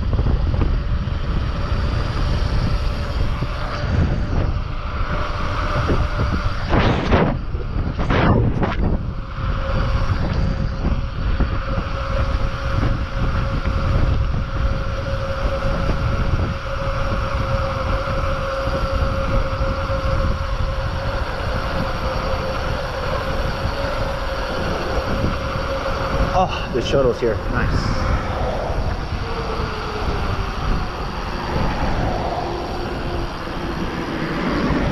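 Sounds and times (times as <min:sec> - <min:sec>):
steady thin hum: 0:00.0 - 0:34.9
wind buffeting microphone: 0:00.0 - 0:34.9.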